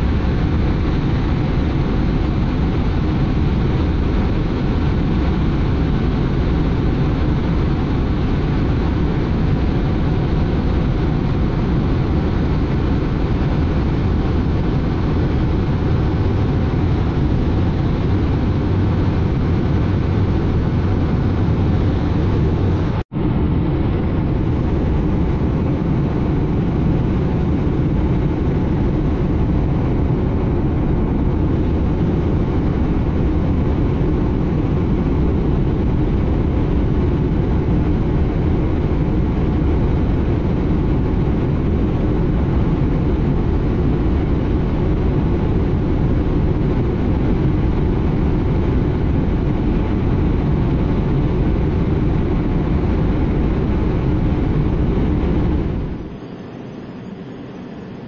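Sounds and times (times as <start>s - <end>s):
jet noise from inside cockpit: 0.0s - 58.0s.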